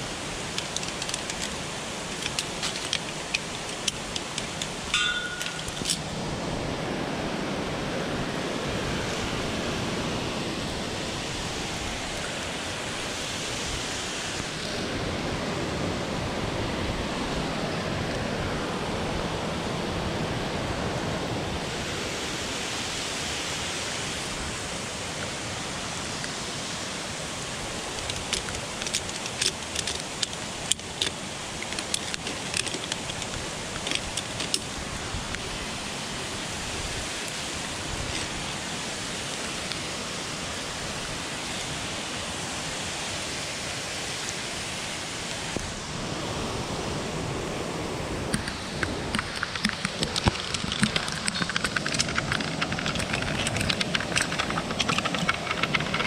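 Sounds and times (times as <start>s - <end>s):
steady rushing noise: 0.0s - 56.0s.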